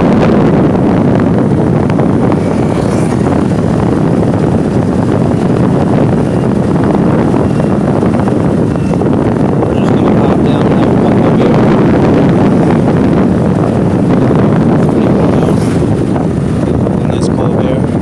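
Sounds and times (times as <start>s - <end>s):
motorbike engine running: 0.0s - 17.2s
wind rush over microphone: 0.0s - 18.0s.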